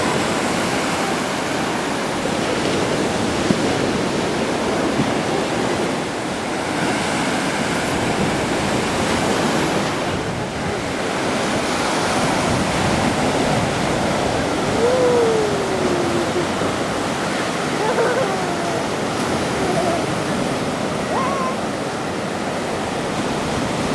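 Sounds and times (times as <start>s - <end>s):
surf washing onto shore: 0.0s - 23.9s.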